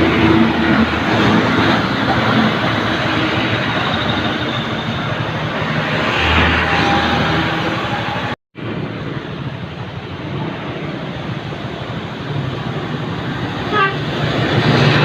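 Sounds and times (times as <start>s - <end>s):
diesel truck engine drone: 0.0s - 15.0s
road and wind noise: 0.0s - 15.0s.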